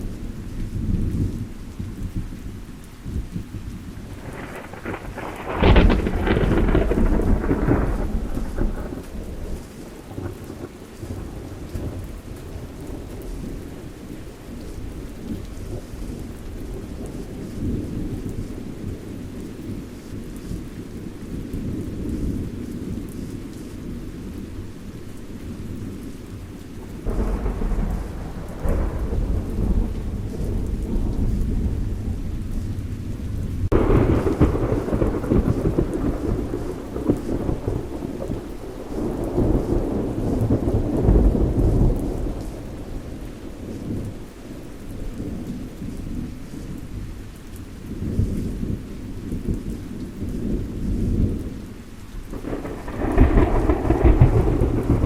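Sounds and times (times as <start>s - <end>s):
rolling thunder: 0.0s - 24.7s, 25.4s - 47.1s, 48.0s - 55.0s
steady rain: 0.0s - 55.0s.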